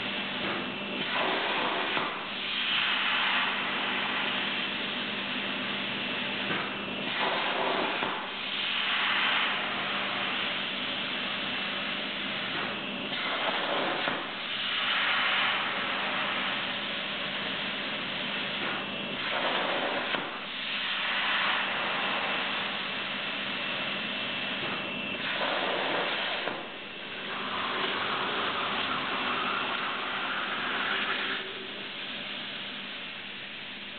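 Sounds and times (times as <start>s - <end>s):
plasma cutter hissing: 1.0s - 4.4s, 7.0s - 23.2s, 24.8s - 33.1s.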